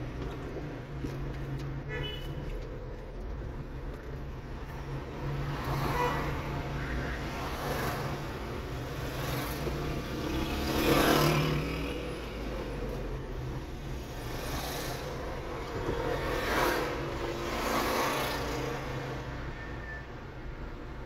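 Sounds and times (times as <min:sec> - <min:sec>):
traffic engine hum: 0:00.0 - 0:21.0
vehicles passing close: 0:00.0 - 0:21.0.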